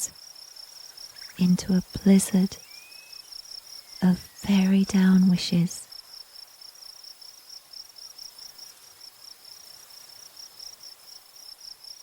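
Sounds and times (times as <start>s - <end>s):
background hiss: 0.0s - 12.0s
crickets chirping: 0.0s - 12.0s.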